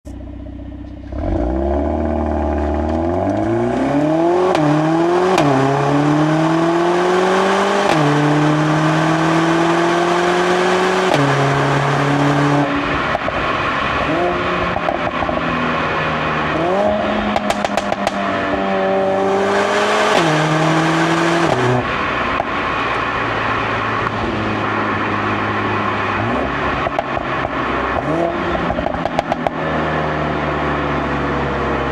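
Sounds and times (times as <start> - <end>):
exhaust crackles: 0.0 - 31.9
car engine accelerating hard: 0.1 - 31.9.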